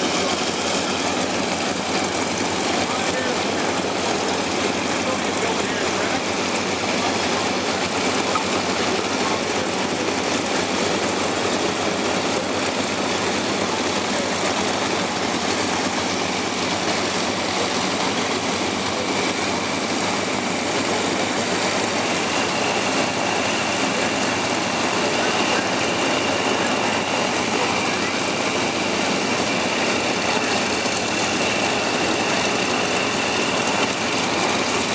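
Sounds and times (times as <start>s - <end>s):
propeller aircraft engine running: 0.0s - 34.9s.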